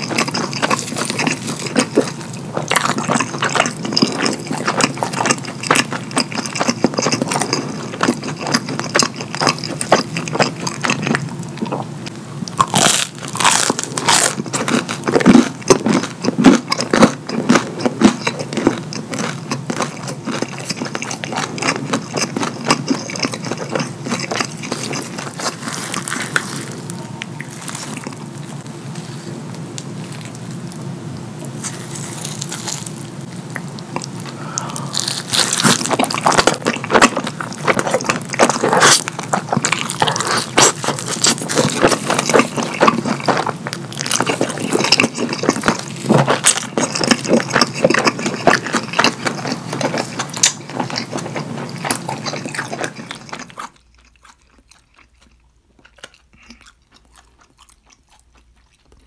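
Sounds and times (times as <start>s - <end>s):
wet chewing and mouth sounds: 0.0s - 59.0s.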